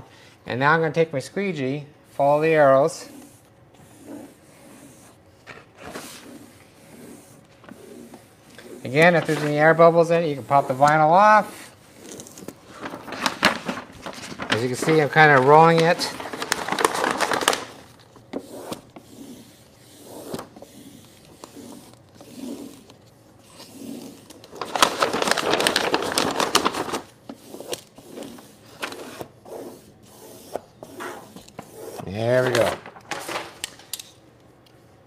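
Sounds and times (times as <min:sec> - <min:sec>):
squeegee scraping vinyl: 0:02.1 - 0:33.3
paper backing peeled off vinyl: 0:02.2 - 0:33.6.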